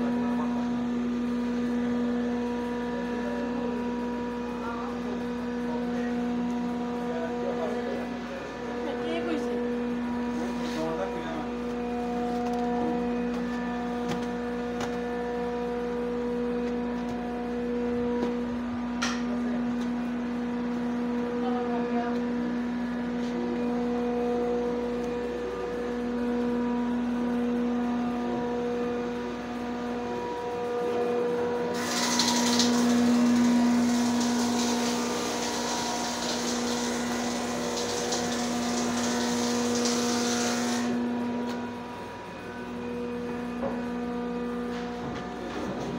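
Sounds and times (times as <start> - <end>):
machine hum: 0.0 - 45.9.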